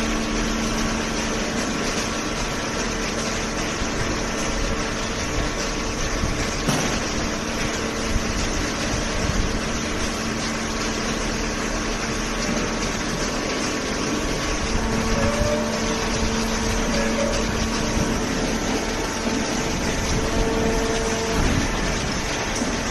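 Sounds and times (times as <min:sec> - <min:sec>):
hydraulic unit hum and whine: 0:00.0 - 0:22.9.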